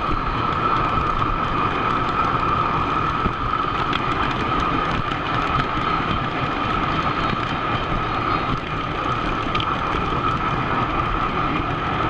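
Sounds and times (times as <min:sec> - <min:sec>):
constant whine: 0:00.0 - 0:12.0
model train wheels rumbling: 0:00.0 - 0:12.0.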